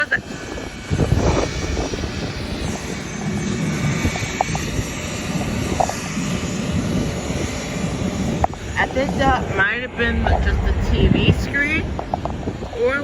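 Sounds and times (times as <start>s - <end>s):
jet engine noise: 0.0s - 13.0s.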